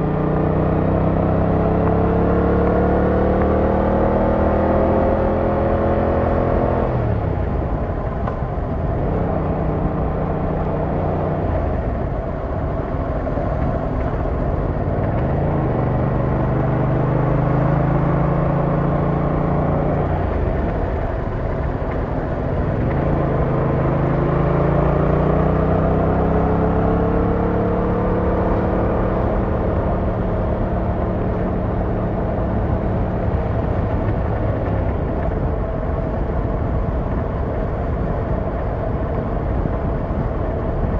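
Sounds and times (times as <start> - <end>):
motorcycle engine: 0.0 - 40.9
wind and road noise: 0.0 - 40.9.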